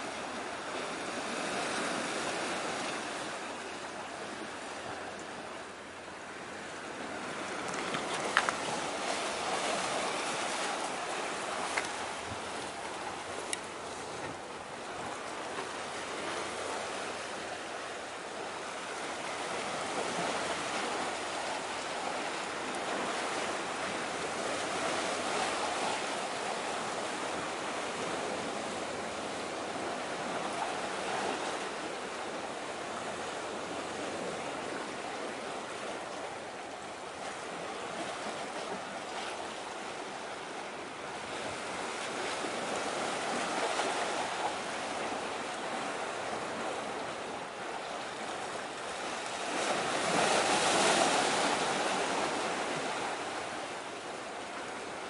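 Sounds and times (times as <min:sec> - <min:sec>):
sea waves washing: 0:00.0 - 0:55.0
wind: 0:00.0 - 0:55.0.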